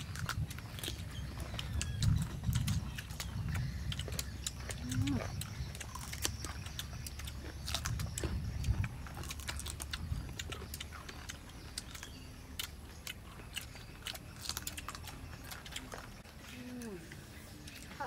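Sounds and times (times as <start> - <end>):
people crunching raw mango: 0.0 - 18.0.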